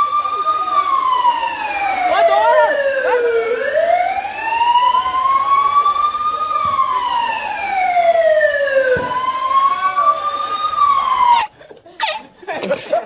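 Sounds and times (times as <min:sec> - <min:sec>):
wailing siren: 0:00.0 - 0:11.5.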